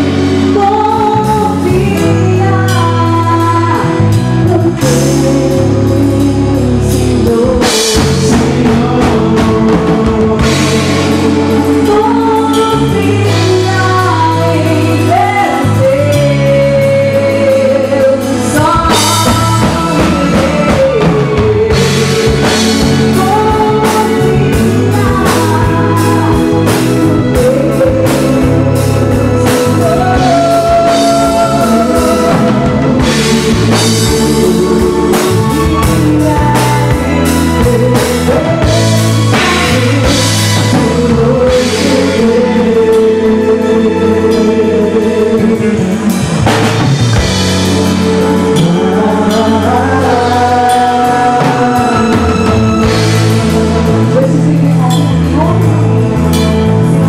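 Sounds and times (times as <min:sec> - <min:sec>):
live band playing: 0:00.0 - 0:57.0
woman singing: 0:00.0 - 0:57.0.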